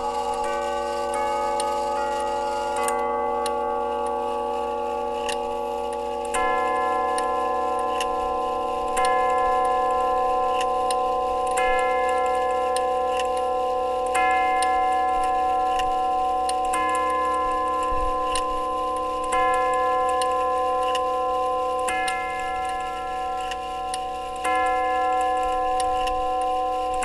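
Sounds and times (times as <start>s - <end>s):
tubular chimes ringing: 0.0s - 27.0s
clock ticking: 4.8s - 27.0s.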